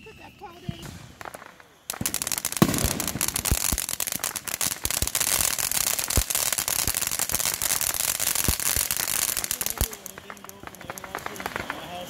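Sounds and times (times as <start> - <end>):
fountain fireworks hissing and crackling: 0.0 - 12.0
firework pops: 0.6 - 12.0.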